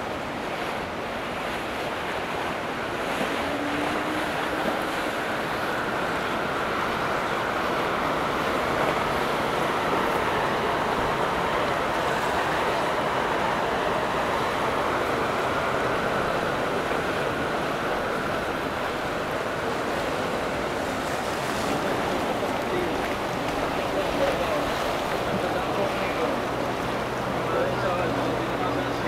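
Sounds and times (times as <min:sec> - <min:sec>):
water rushing: 0:00.0 - 0:29.0.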